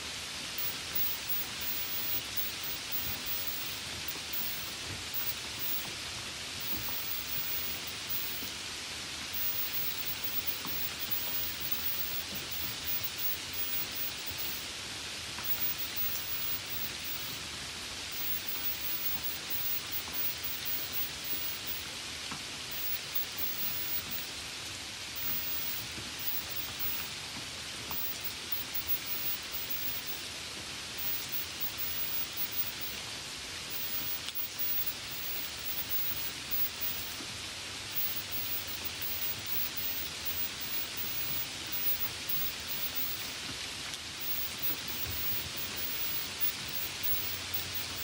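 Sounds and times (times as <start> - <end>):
faint raindrop tick: 0.0 - 48.0
light rain hissing: 0.0 - 48.0.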